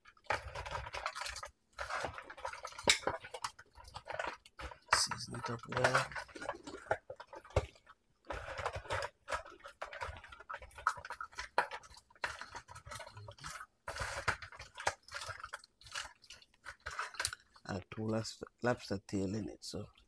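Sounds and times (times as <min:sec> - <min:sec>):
crab shells clicking together: 0:00.0 - 0:17.7
wet squelching in a bowl: 0:00.0 - 0:18.2.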